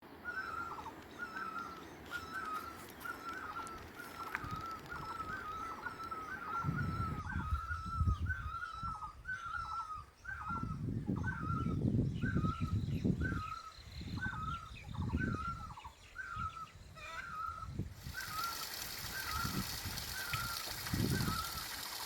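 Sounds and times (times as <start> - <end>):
bird calling: 0.1 - 22.0.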